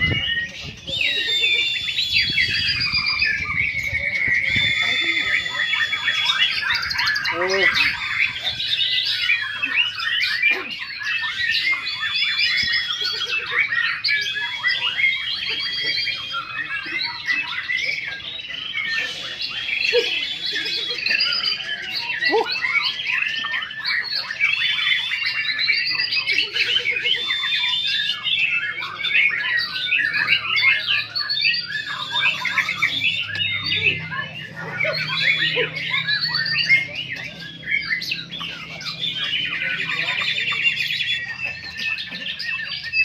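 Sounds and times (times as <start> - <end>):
birds singing whistles and trills: 0.0 - 43.0.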